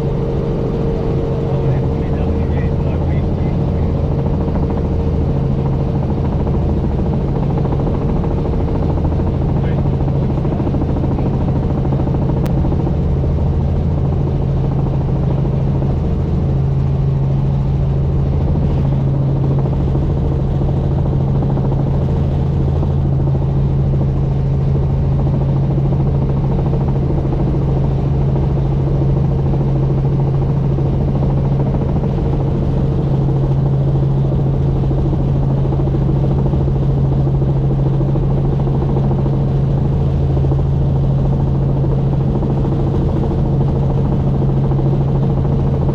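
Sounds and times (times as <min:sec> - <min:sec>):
helicopter engine and rotors: 0:00.0 - 0:45.9.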